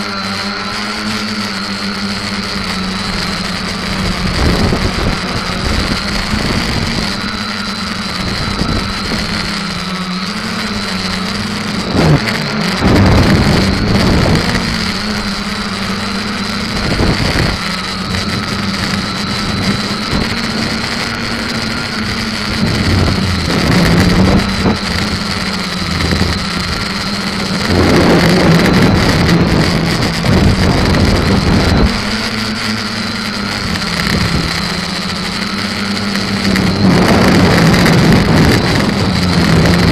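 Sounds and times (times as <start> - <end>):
drone motors buzzing hum: 0.0 - 39.9
rushing wind noise: 0.0 - 39.9.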